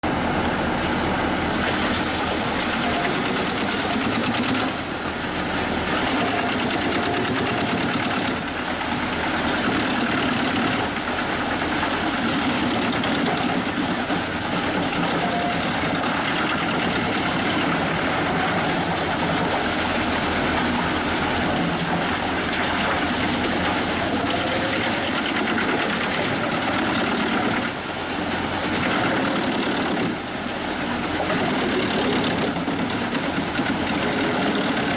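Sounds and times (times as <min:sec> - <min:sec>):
wood chipper running: 0:00.0 - 0:34.9.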